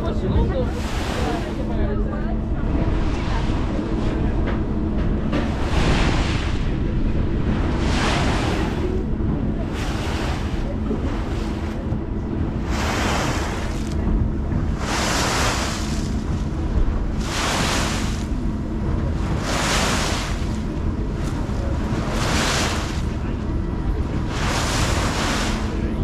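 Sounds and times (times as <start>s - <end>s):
water splashing against hull: 0.0s - 26.0s
wind rumble on microphone: 0.0s - 26.0s.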